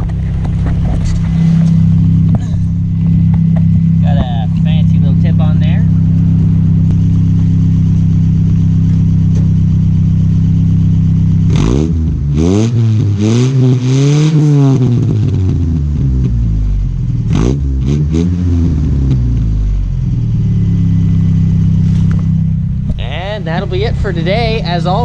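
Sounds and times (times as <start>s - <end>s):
pickup engine idling and revving: 0.0s - 25.0s.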